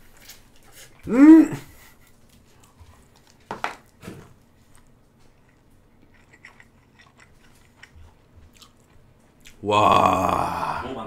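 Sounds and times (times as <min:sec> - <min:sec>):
quiet chewing: 0:00.0 - 0:01.1, 0:01.7 - 0:09.6.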